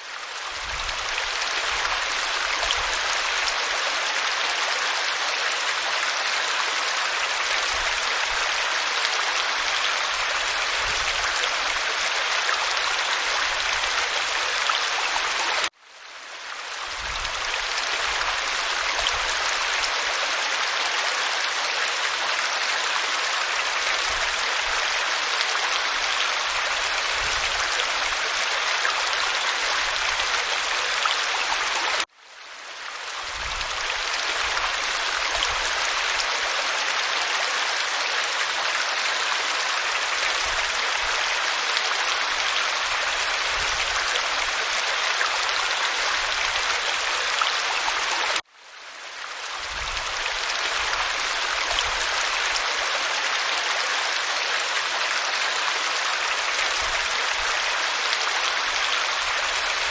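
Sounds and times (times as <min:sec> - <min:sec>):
waterfall pouring over rock: 0:00.0 - 0:15.8, 0:16.4 - 0:32.1, 0:32.7 - 0:48.5, 0:49.1 - 0:59.9.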